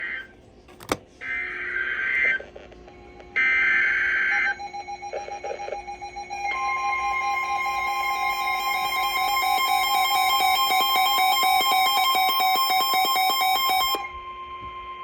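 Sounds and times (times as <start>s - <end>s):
steady warning alarm tone: 1.2s - 15.0s.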